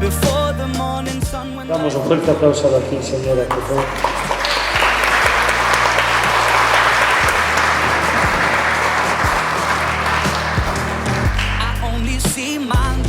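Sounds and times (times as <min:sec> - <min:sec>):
crowd applauding: 0:01.7 - 0:12.8.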